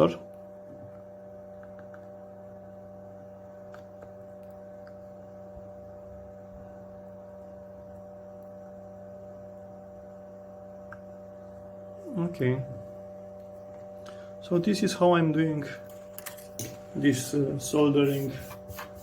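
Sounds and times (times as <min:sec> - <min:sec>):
small fan humming: 0:00.0 - 0:19.0.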